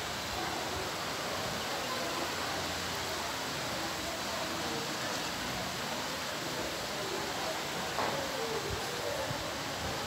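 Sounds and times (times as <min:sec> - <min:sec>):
rain: 0:00.0 - 0:10.0.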